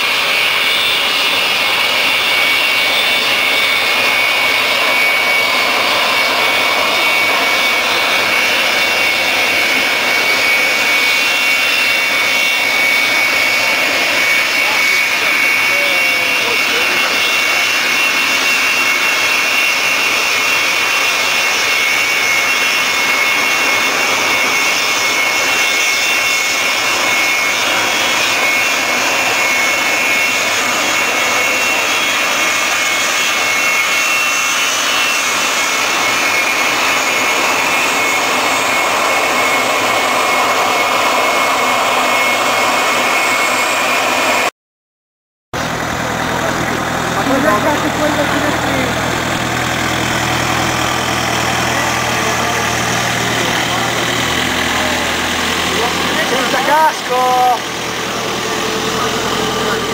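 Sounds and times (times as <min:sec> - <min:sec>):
jet engine idling: 0:00.0 - 0:44.5, 0:45.6 - 0:59.9.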